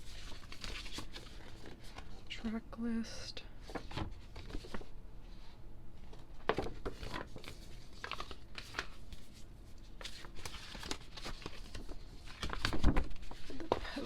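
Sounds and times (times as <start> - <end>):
paper and card rustling: 0.0 - 2.3, 3.6 - 5.0, 6.0 - 14.0.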